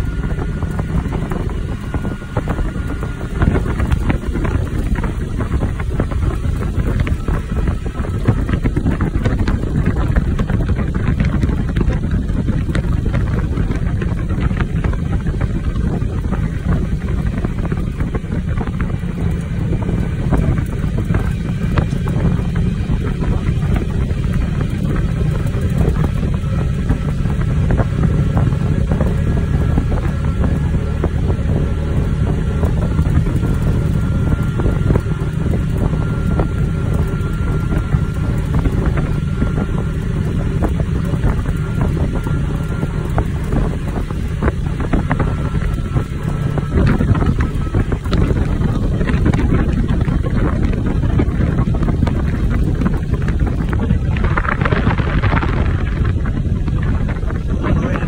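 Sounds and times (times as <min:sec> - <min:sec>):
road and engine noise: 0:00.0 - 0:58.0
wind buffeting microphone: 0:00.0 - 0:58.0.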